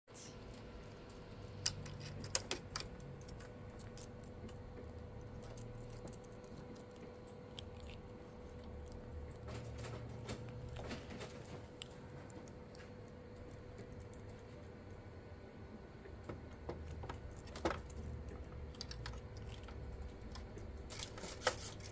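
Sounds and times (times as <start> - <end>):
faint steady hum: 0.1 - 21.9.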